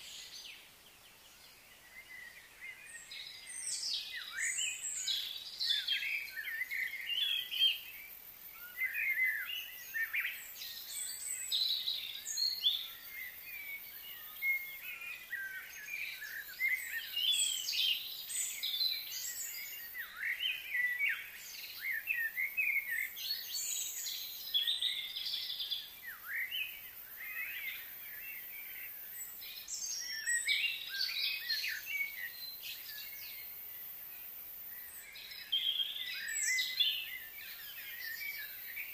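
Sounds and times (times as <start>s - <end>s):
wild birds chirping: 0.0s - 38.9s.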